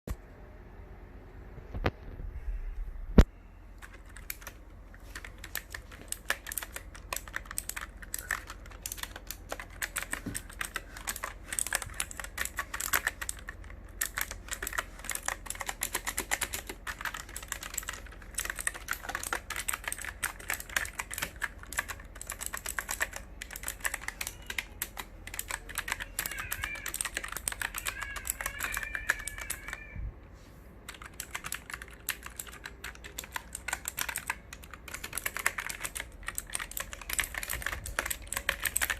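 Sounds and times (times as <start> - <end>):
keyboard typing: 3.8 - 29.9, 30.8 - 38.9.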